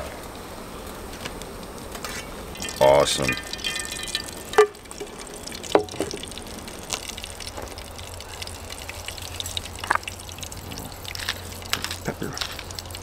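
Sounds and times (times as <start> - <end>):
eggs sizzling in a pan: 2.0 - 13.0
sharp pops and clicks: 2.0 - 13.0.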